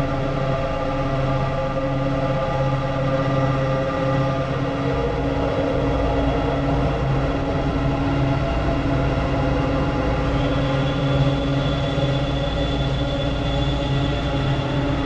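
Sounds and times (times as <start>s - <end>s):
noisy synthesizer drone: 0.0s - 15.0s.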